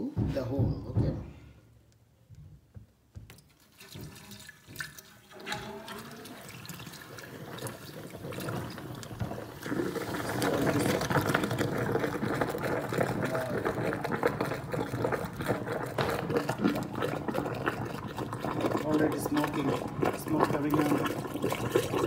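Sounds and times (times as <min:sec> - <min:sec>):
chemical foaming and fizzing: 0:03.4 - 0:22.0
liquid splashing and gurgling down drain: 0:03.4 - 0:22.0.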